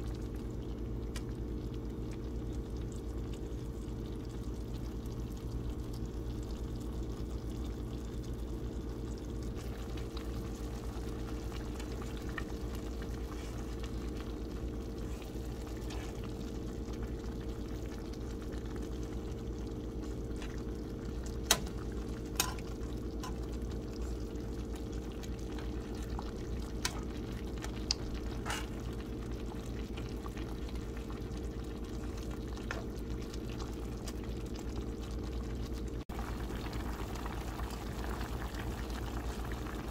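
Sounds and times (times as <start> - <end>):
low hum: 0.0 - 38.1
sauce bubbling and frying in pan: 0.0 - 39.9.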